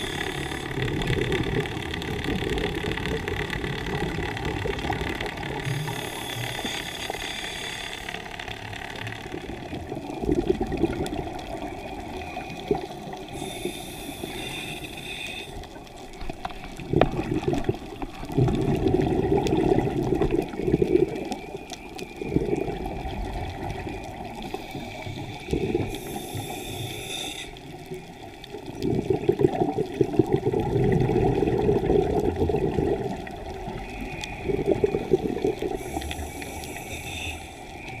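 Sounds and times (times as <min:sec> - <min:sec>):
regulator bubbles gurgling underwater: 0:00.0 - 0:38.0.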